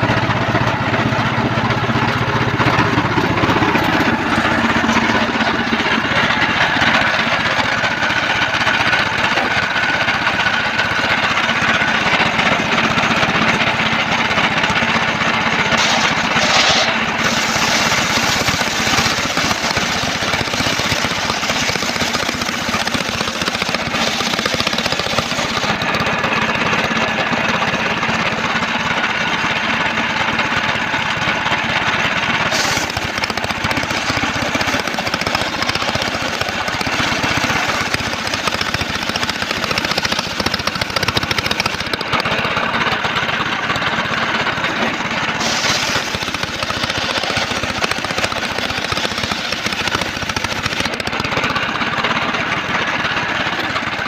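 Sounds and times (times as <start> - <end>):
circular sawmill sawing timber: 0.0 - 54.0
pulsing engine: 0.0 - 54.0.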